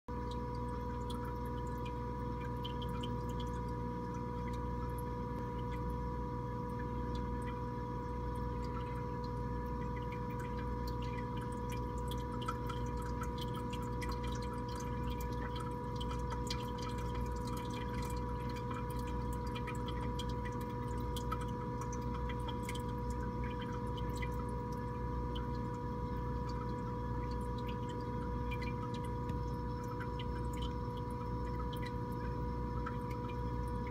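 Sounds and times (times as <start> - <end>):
aquarium equipment humming: 0.1 - 33.9
water dripping and trickling: 0.1 - 33.9.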